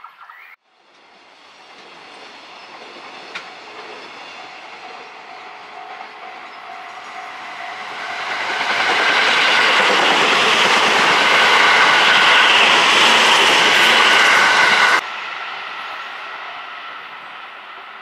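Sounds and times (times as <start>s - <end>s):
electric train passing at speed: 0.6s - 18.0s.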